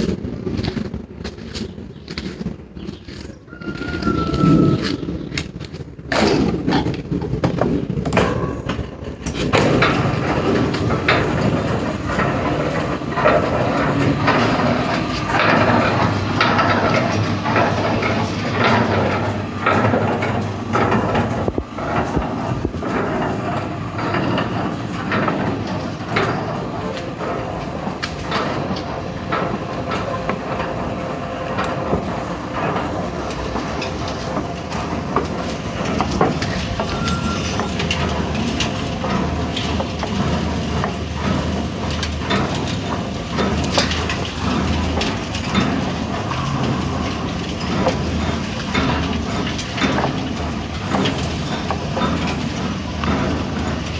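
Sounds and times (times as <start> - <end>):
machine rumbling: 0.0 - 53.9.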